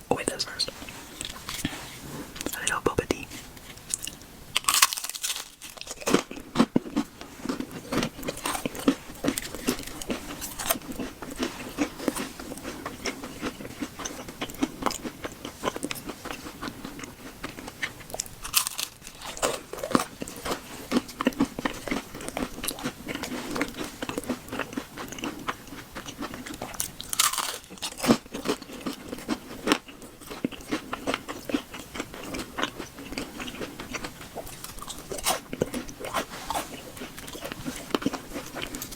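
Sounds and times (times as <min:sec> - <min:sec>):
person chewing crunchy food: 0:00.2 - 0:38.9.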